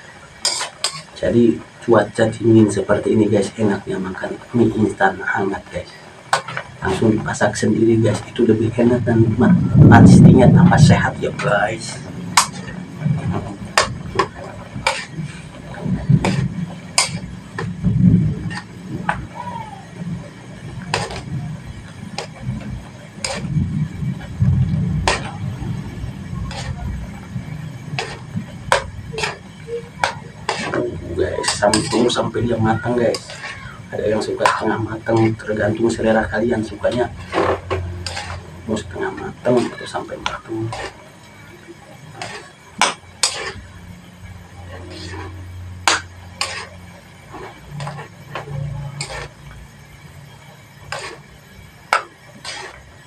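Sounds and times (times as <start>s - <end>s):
metal utensil scraping a wok: 0.0s - 1.3s, 5.7s - 53.0s
low steady rumble: 5.9s - 53.0s.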